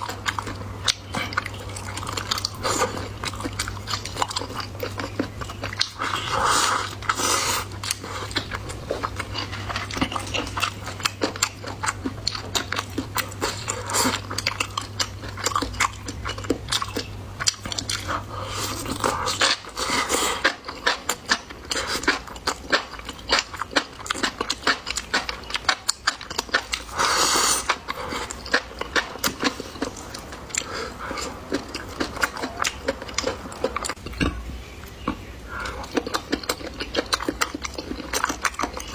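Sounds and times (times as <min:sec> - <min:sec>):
person chewing and biting: 0:00.0 - 0:38.9.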